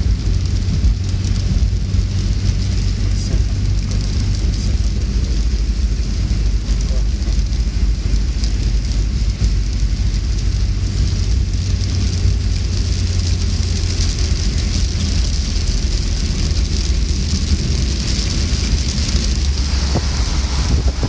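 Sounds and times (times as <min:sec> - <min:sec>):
heavy low rumble: 0:00.0 - 0:21.0
steady rain hissing: 0:00.0 - 0:21.0.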